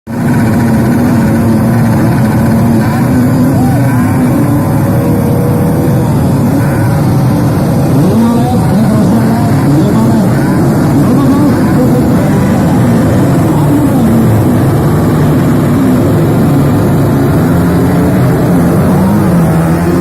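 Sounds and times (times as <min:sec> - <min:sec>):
motocross bike engines revving: 0:00.1 - 0:20.0.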